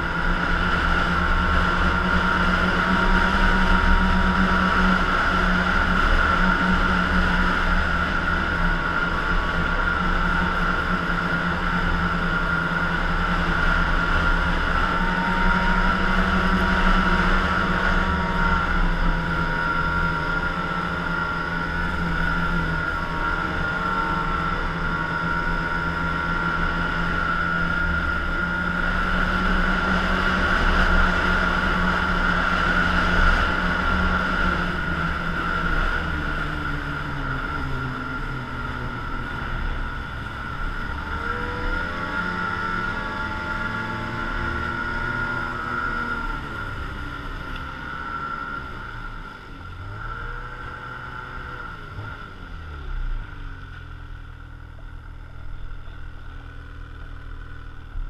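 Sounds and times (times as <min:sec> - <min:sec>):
snowmobile engine whining: 0:00.0 - 0:58.0.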